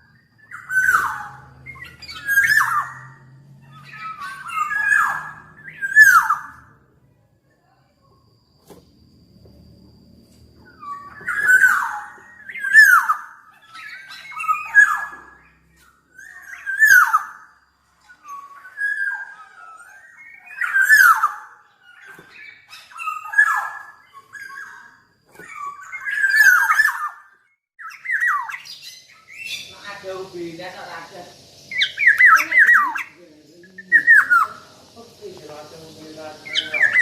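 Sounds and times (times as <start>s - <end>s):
bird calling harsh notes: 0.0s - 6.7s, 10.6s - 37.0s.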